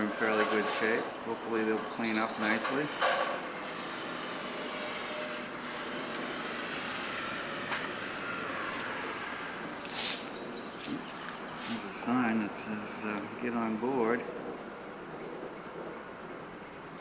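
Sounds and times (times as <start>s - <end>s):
crickets trilling: 0.0s - 17.0s
even hiss: 0.0s - 17.0s.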